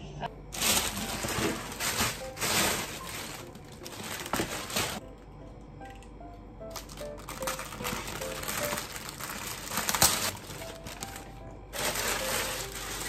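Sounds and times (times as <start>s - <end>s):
plastic bag crinkling: 0.5s - 5.0s, 6.7s - 13.0s.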